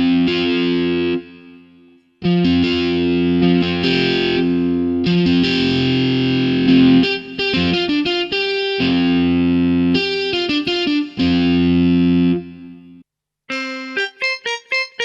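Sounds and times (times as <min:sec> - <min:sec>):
keyboard distorted guitar chords: 0:00.0 - 0:15.0.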